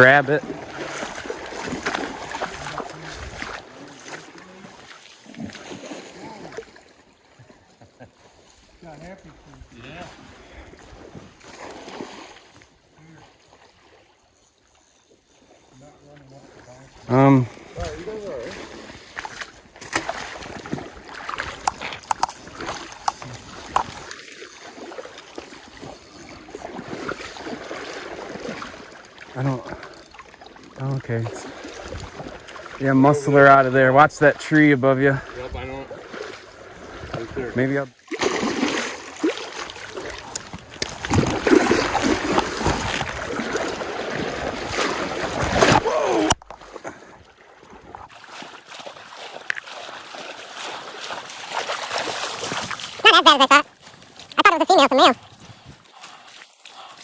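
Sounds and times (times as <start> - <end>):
stream water splashing: 0.0 - 57.0.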